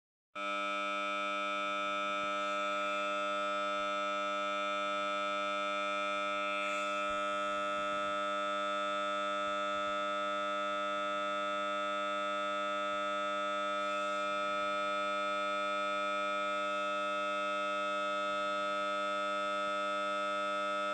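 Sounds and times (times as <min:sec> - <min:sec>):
phone loudspeaker buzzing drone: 0:00.4 - 0:20.9.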